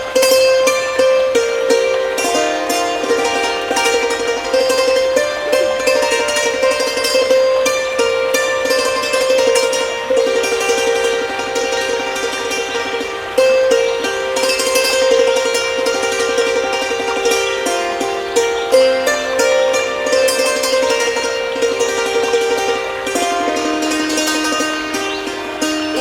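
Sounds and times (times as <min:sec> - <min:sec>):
hammered dulcimer melody: 0:00.0 - 0:26.0.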